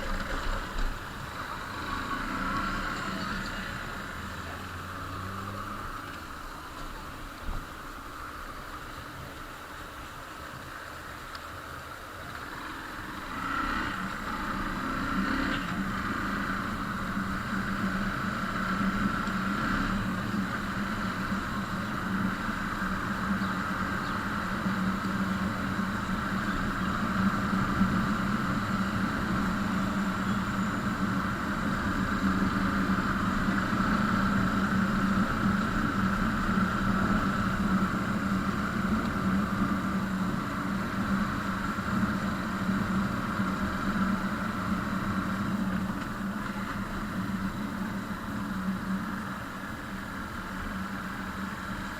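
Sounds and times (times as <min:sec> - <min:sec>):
vehicle engine running steadily: 0:00.0 - 0:51.9.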